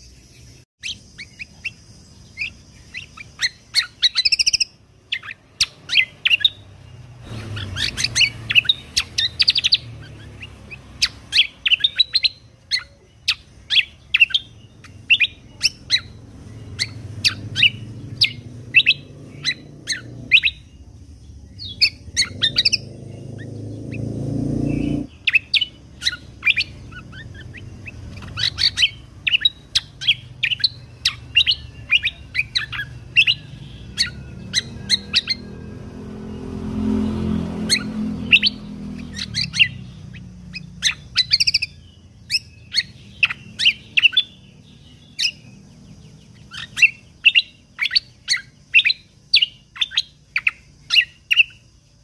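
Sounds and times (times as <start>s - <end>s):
songbird chirping: 0.0s - 52.0s.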